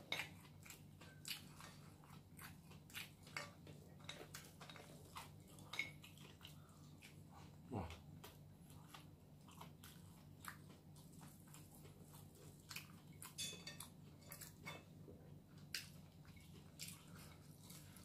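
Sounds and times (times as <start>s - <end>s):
quiet chewing: 0.0s - 18.0s.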